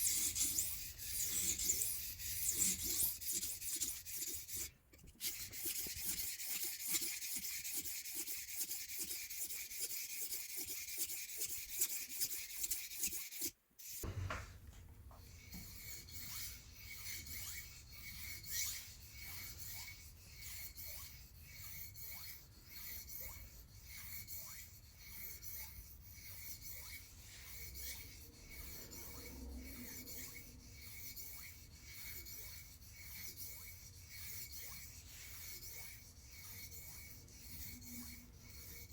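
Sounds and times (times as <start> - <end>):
knife scraping on sharpener: 0.0 - 14.2, 15.2 - 38.9.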